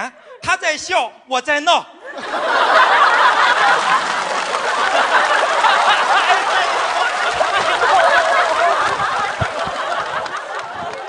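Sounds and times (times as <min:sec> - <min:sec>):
studio audience laughing: 0:02.0 - 0:11.0.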